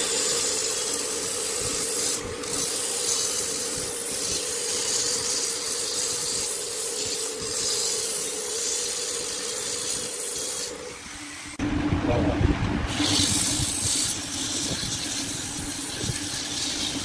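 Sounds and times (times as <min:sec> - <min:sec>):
turning tool scraping wood: 0:00.0 - 0:11.6, 0:12.9 - 0:17.0
wood lathe motor hum: 0:00.0 - 0:11.6, 0:12.9 - 0:17.0.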